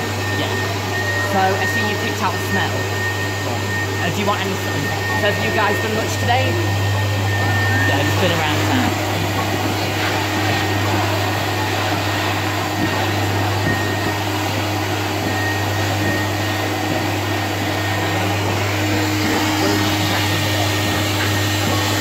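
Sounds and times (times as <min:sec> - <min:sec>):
stuffing machine running: 0:00.0 - 0:22.0.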